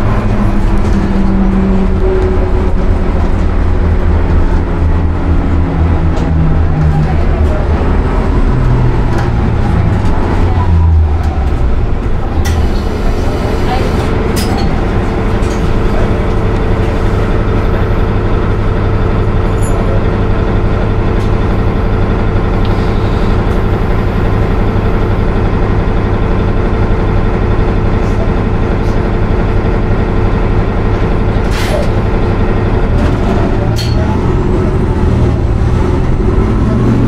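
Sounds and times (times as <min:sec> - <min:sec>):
bus engine running: 0:00.0 - 0:37.0.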